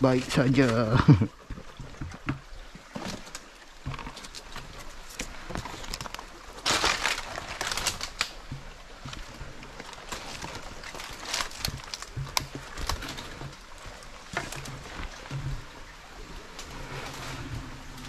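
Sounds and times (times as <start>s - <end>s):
dry palm fronds rustling: 0.0s - 18.0s.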